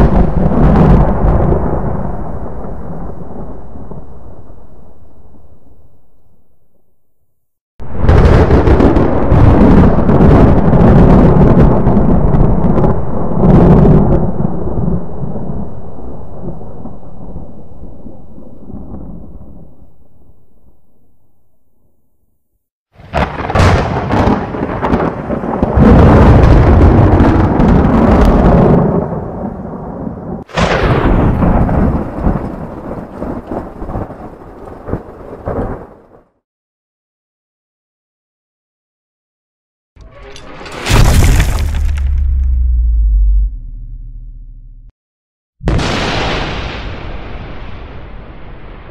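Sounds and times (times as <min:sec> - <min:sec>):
thunder cracks and rumble: 0:00.0 - 0:05.8, 0:07.8 - 0:20.4, 0:23.0 - 0:36.4, 0:40.6 - 0:44.9, 0:45.6 - 0:48.9.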